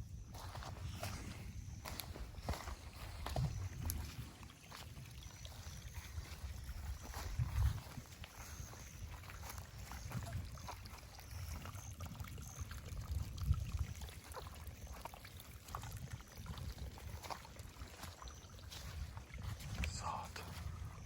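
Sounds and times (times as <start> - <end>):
storm runoff trickling: 0.0 - 21.0.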